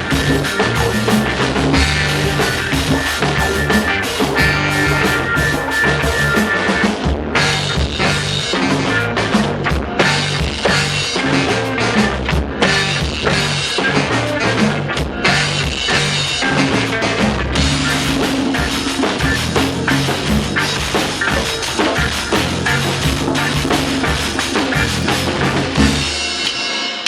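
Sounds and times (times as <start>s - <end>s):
reggae band playing: 0.0s - 27.0s.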